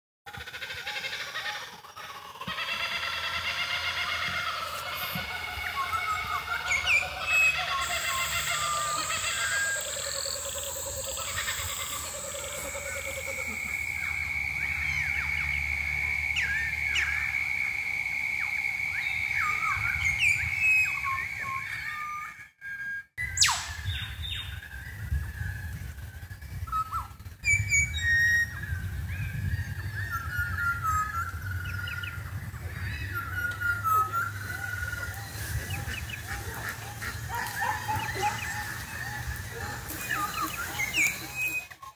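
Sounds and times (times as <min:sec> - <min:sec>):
birds chirping: 0:00.3 - 0:22.2, 0:23.2 - 0:41.9.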